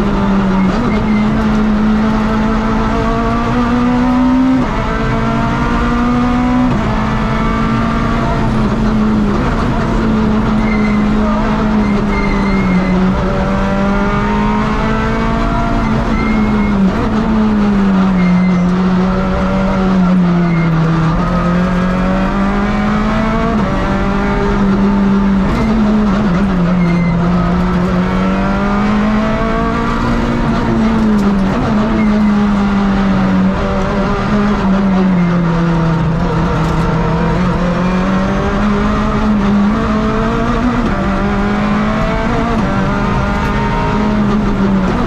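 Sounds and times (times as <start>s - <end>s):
rally car engine revving: 0.0s - 45.0s.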